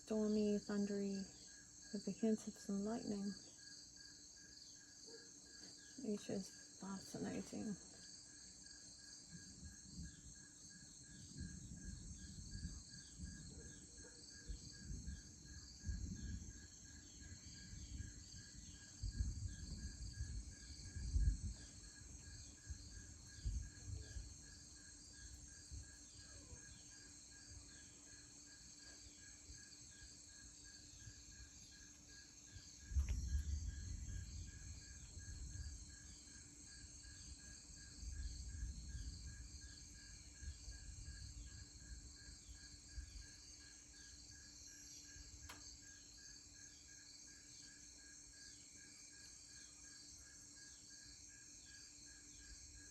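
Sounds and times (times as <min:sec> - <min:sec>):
insects chorus: 0:00.0 - 0:52.9.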